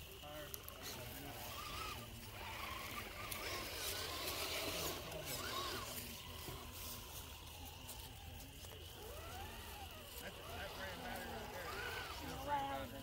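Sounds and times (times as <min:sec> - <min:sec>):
scattered crackles: 0:00.0 - 0:13.0
small electric motor whining: 0:00.0 - 0:13.0.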